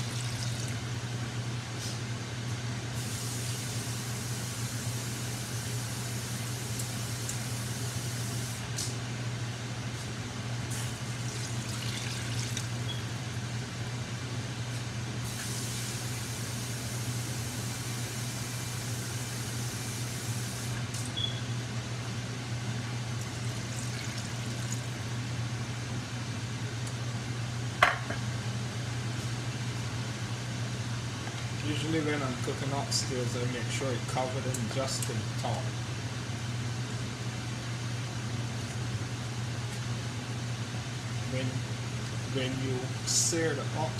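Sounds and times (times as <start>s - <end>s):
low hum and hiss: 0.0s - 43.9s.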